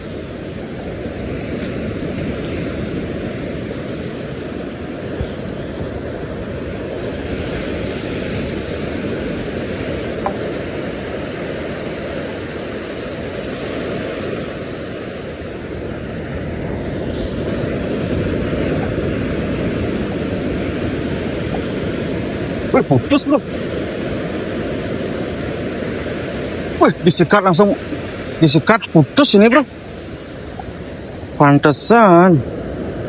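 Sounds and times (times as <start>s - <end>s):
surf breaking on beach: 0.0s - 33.0s.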